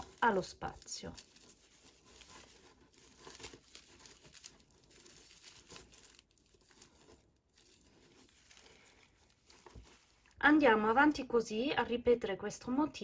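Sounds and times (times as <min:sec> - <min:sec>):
faint crinkling and rustling of yarn: 0:00.0 - 0:13.0.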